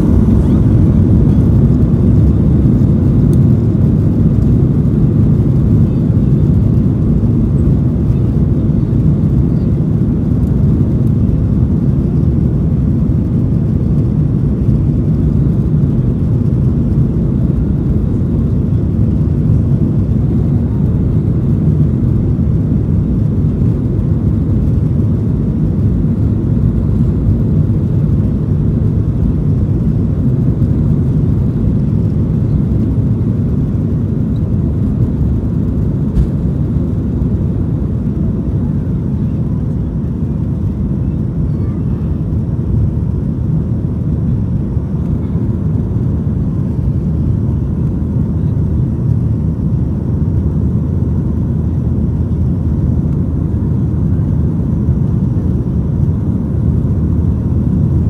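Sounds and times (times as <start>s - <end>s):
aircraft engines low rumble: 0.0s - 58.0s.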